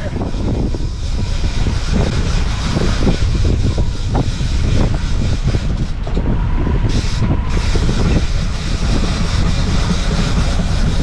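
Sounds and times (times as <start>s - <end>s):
outboard motors running: 0.0s - 11.0s
wind rumble on microphone: 0.0s - 11.0s.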